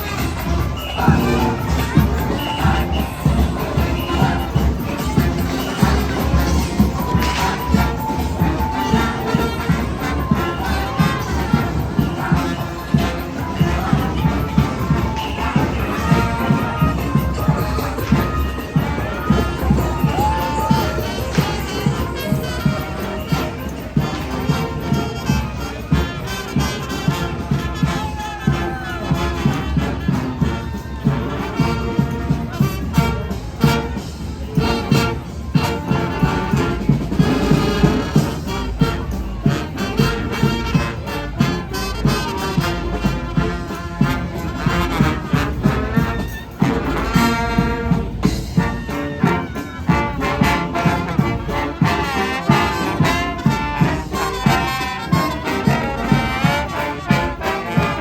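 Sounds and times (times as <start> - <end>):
drums keeping a steady beat: 0.0 - 58.0
trumpets and trombones: 0.0 - 58.0.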